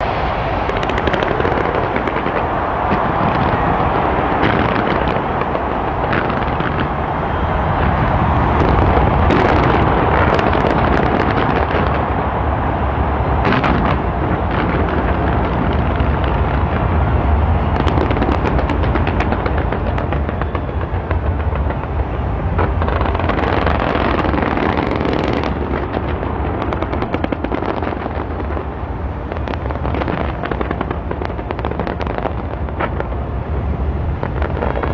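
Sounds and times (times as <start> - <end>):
fireworks bangs: 0.0 - 34.9.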